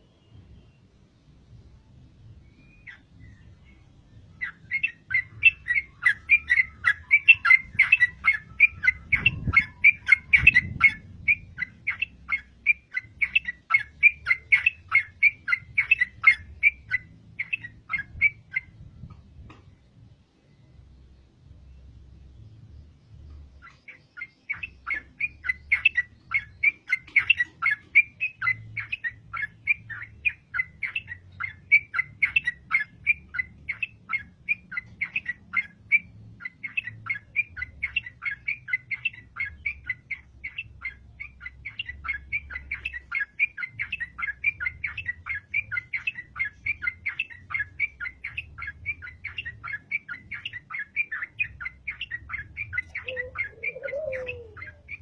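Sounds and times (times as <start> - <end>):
bird chattering song: 2.0 - 55.0.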